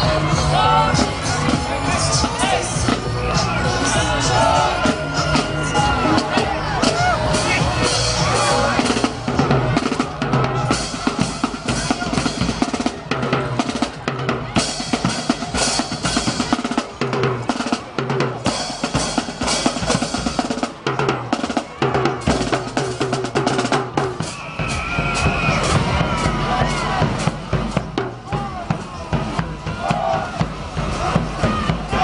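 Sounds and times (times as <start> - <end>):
drums playing busy beat: 0.0 - 32.0.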